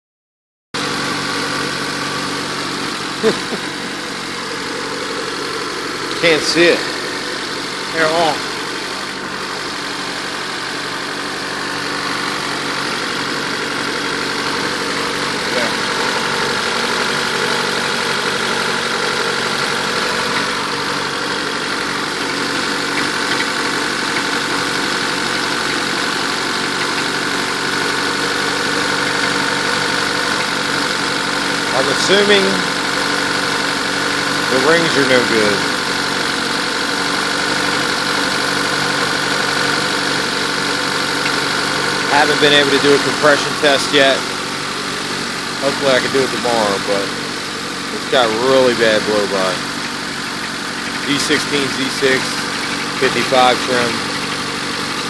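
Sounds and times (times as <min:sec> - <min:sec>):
car engine idling: 0:00.8 - 0:55.0.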